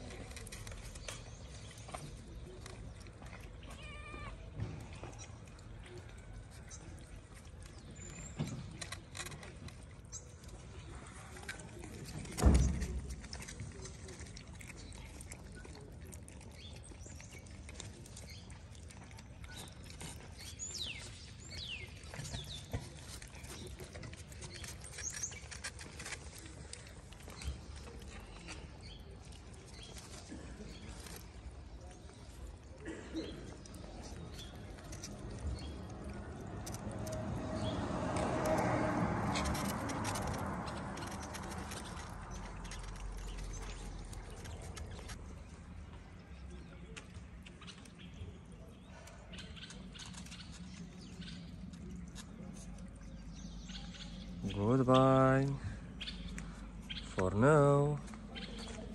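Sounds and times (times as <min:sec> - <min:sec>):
cats eating wet food: 0:00.0 - 0:58.9.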